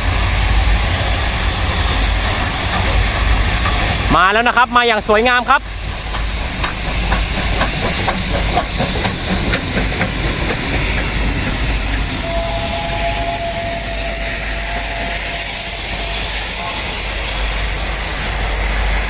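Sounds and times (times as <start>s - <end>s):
steam locomotives hissing: 0.0s - 19.0s.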